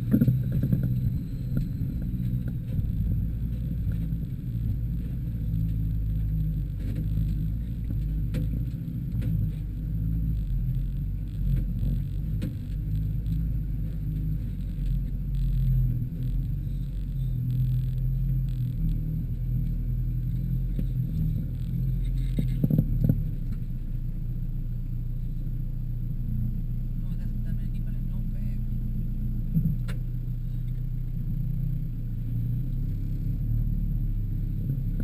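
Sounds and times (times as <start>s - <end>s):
low rumble: 0.0s - 35.0s
van engine running: 0.0s - 35.0s.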